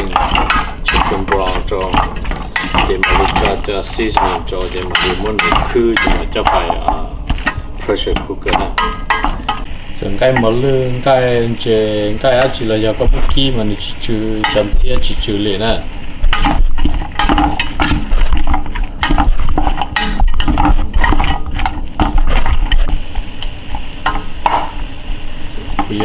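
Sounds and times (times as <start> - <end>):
wooden spoon scraping metal pot: 0.0 - 24.8
meat sizzling: 0.0 - 26.0.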